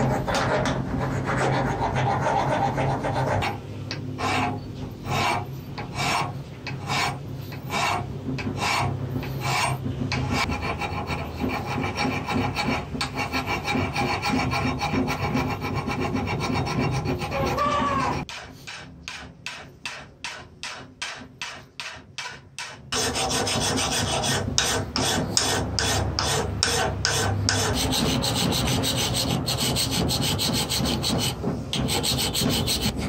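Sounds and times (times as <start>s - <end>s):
rasping strokes: 0.0s - 33.0s.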